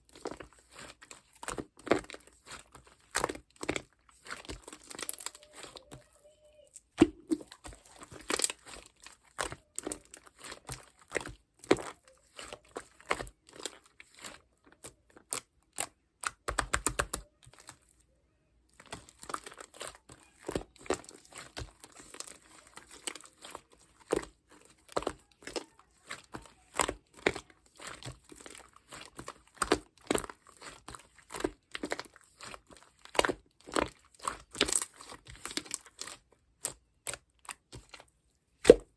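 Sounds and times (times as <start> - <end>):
slime squished by hand: 0.1 - 17.9, 18.7 - 38.9.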